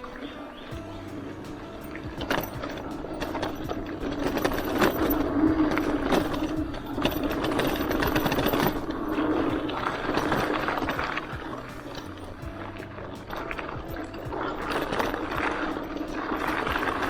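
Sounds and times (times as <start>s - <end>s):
bike rattling and clicking: 0.0s - 17.0s
bike tyres on dirt trail: 0.0s - 17.0s.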